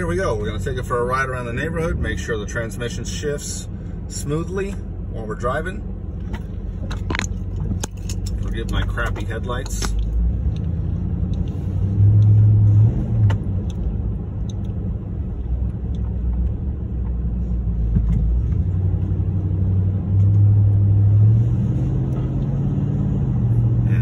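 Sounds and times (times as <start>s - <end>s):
engine drone inside a truck: 0.0s - 24.0s
road noise: 0.0s - 24.0s.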